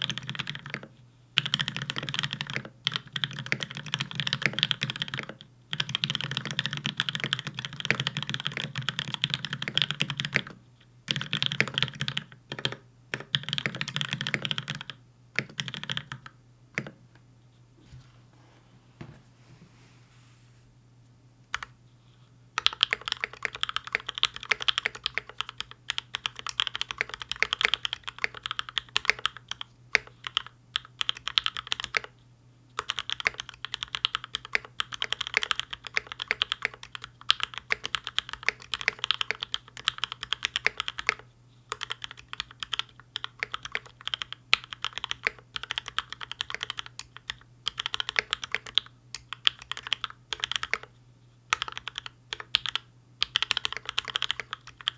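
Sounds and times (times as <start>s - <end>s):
mechanical keyboard typing: 0.0s - 17.0s, 22.6s - 32.1s, 32.8s - 50.9s, 51.5s - 54.9s
faint low hum: 0.0s - 54.9s.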